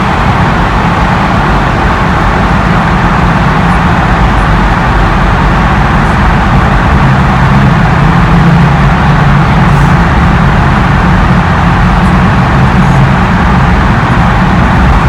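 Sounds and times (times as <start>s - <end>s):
low engine hum: 0.0s - 15.0s
tyre noise on the road: 0.0s - 15.0s.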